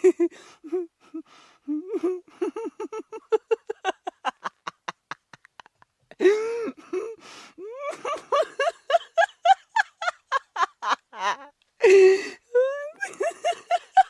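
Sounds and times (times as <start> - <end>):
person laughing hard: 0.0 - 0.9, 1.8 - 14.0.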